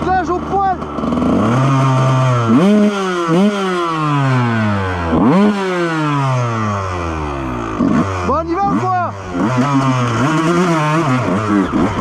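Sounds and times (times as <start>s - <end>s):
motocross engine revving: 0.0s - 12.0s.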